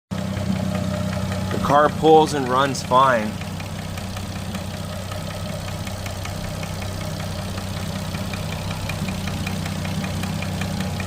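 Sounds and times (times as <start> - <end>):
car engine idling: 0.1 - 11.0
rapid engine ticking: 0.1 - 11.0.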